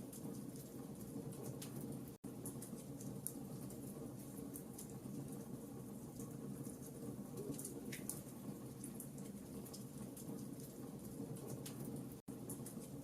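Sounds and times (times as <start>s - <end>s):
wood crackling and popping: 0.0s - 13.0s.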